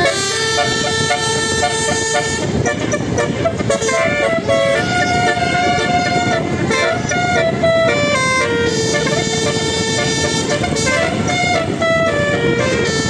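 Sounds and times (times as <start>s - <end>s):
continuous rumbling noise: 0.0s - 13.0s
tuned air horns playing melody: 0.0s - 13.0s.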